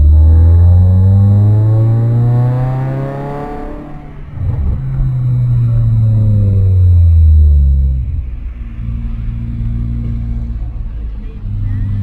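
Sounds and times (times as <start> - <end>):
car engine drone from inside: 0.0 - 12.0.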